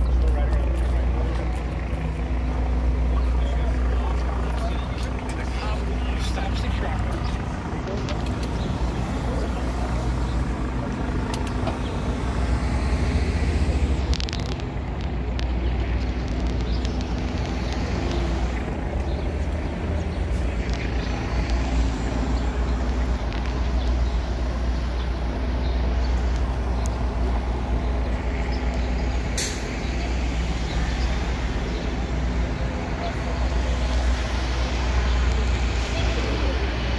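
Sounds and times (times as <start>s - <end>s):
bus and car engines rumbling: 0.0s - 36.9s.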